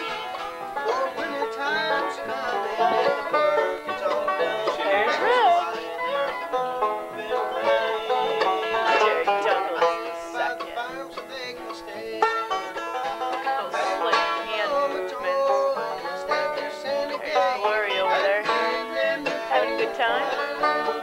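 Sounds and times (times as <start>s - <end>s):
bluegrass band playing: 0.0s - 21.0s.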